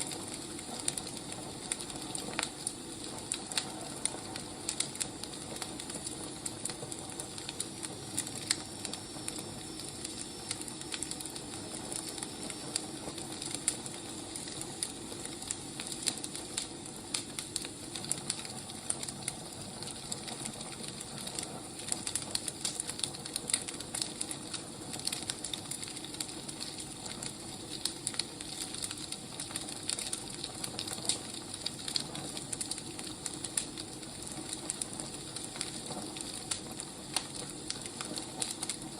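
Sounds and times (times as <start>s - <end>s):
firewood crackling: 0.0s - 38.9s.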